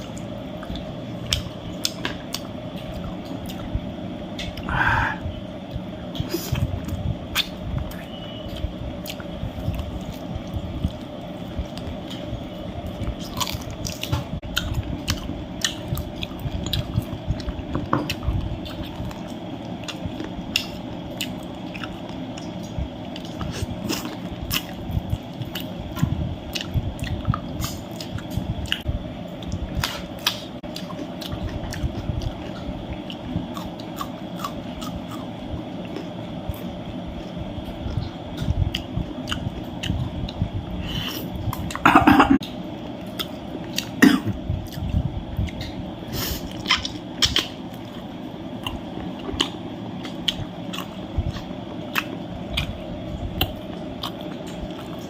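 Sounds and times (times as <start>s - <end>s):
person chewing food: 0.0s - 41.8s, 42.4s - 44.0s, 46.4s - 55.0s.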